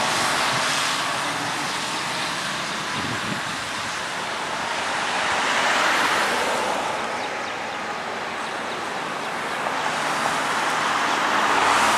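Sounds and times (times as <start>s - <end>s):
cars driving past: 0.0s - 11.9s.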